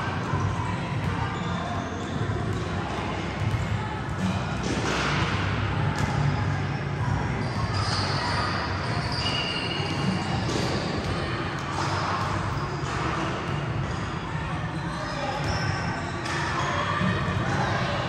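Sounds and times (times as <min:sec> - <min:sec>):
basketballs bouncing on gym floor: 0:00.2 - 0:06.3, 0:07.1 - 0:14.1, 0:14.8 - 0:16.4.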